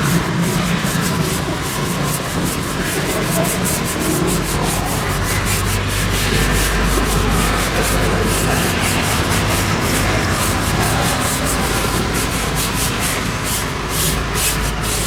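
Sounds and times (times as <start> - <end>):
scrubbing and rubbing on a car: 0.0 - 15.0.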